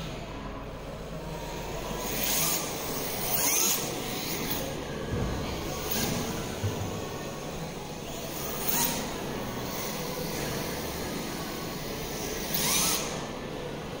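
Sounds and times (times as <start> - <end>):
radio-controlled car motors whining: 0.0 - 14.0.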